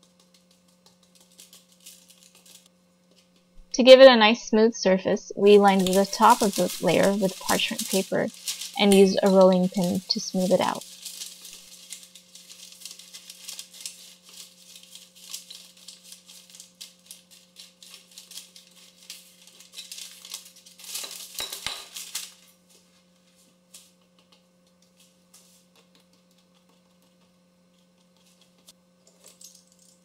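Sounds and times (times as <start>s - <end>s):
parchment paper crinkling: 0.0s - 3.4s, 5.4s - 30.0s
faint steady hum: 0.1s - 30.0s.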